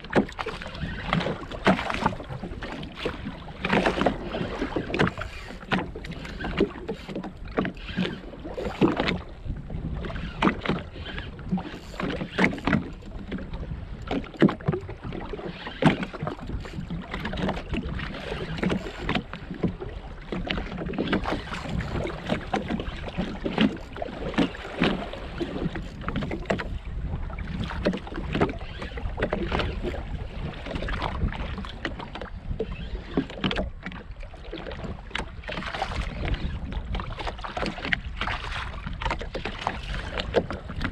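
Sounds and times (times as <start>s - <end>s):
waves slapping against hull: 0.0s - 40.9s
wind rumble on microphone: 0.0s - 40.9s.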